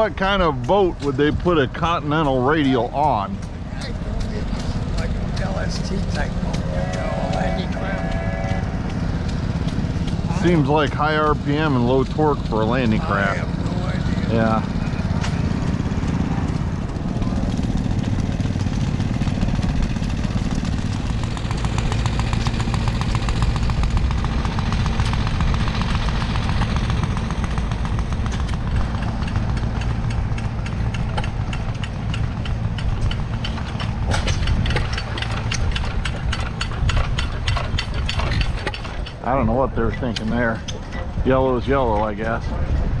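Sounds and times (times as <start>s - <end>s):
rapid machinery clicking: 0.0s - 42.4s
engine idling: 0.0s - 43.0s.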